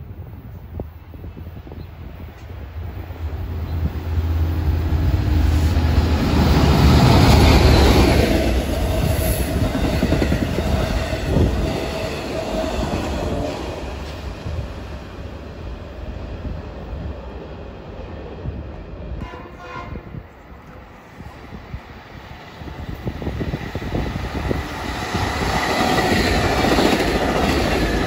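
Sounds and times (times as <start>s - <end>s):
diesel locomotive passing: 0.0s - 28.0s.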